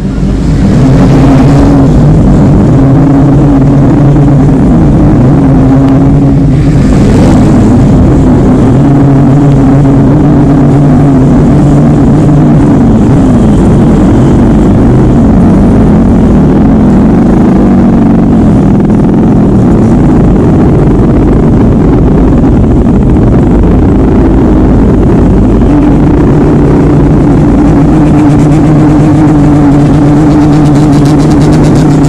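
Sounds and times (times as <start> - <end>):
motorcycle engine revving loudly: 0.0 - 32.0.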